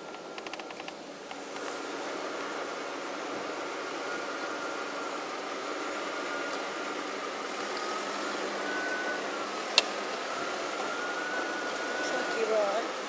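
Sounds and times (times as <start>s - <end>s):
engine humming with high whine: 0.0s - 13.0s.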